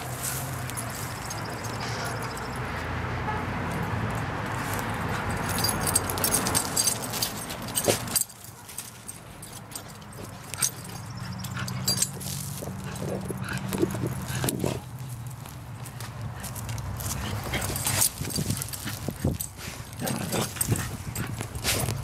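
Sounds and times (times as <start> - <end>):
dog paws scratching dirt: 0.0 - 2.5, 4.4 - 22.0.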